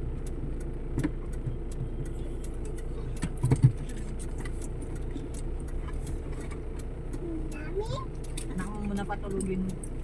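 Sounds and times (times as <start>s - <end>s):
car engine hum and road noise: 0.0s - 10.0s
light ticks: 0.0s - 10.0s.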